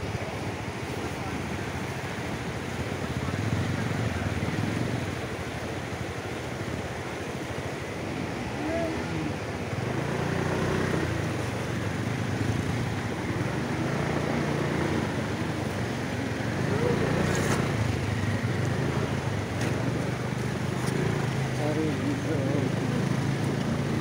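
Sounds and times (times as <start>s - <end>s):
fast-flowing river rushing: 0.0s - 24.0s
motorcycle engines running: 0.0s - 24.0s.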